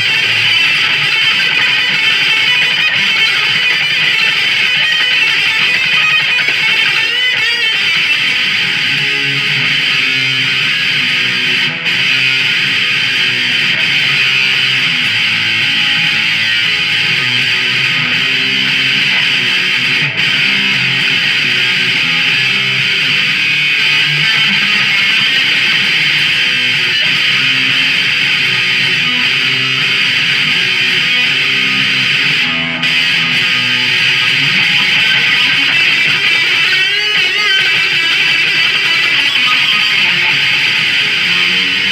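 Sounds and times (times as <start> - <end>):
electric guitar through amplifier: 0.0 - 41.9.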